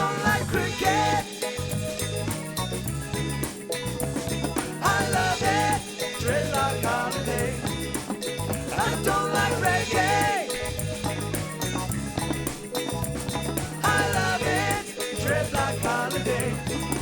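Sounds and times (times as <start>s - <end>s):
band playing reggae: 0.0s - 17.0s.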